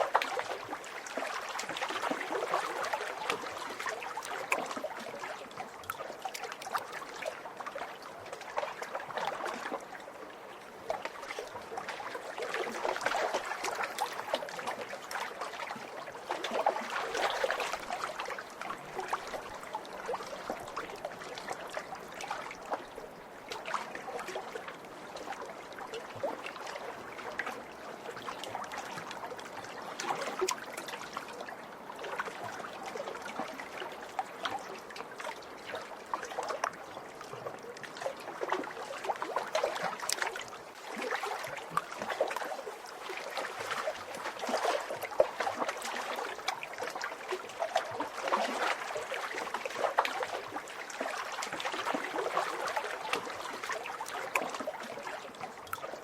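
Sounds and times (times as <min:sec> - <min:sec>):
lake waves lapping on shore: 0:00.0 - 0:56.0.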